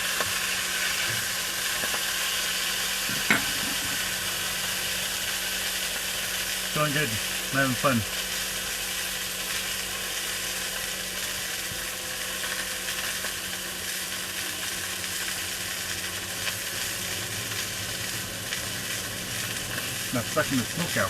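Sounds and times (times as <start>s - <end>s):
sausages sizzling in a pan: 0.0s - 21.0s.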